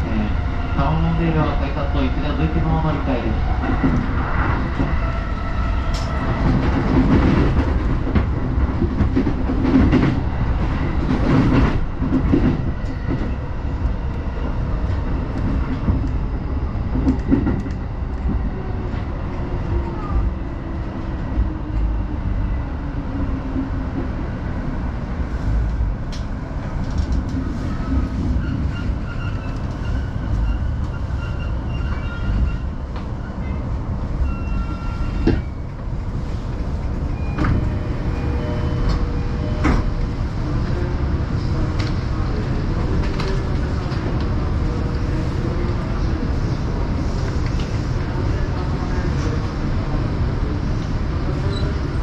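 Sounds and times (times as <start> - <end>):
train cabin low rumble: 0.0 - 52.0.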